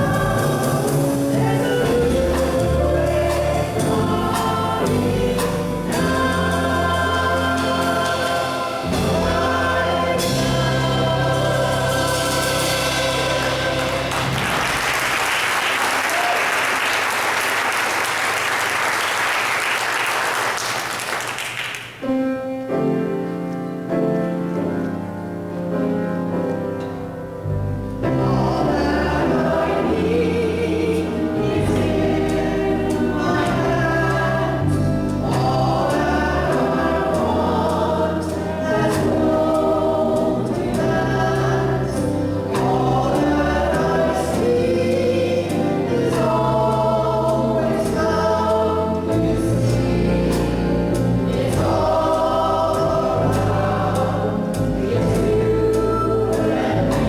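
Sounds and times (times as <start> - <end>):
keyboard accompaniment: 0.0 - 16.3, 21.8 - 57.0
group singing gospel song: 0.0 - 19.2, 28.0 - 57.0.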